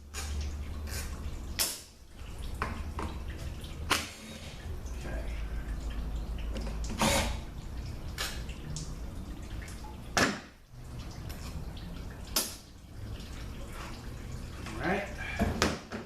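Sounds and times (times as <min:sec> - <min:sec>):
low steady hum: 0:00.0 - 0:15.6.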